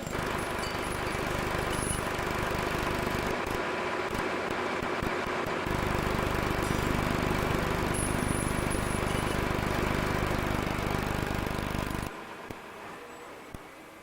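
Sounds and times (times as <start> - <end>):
engine running: 0.0 - 12.7.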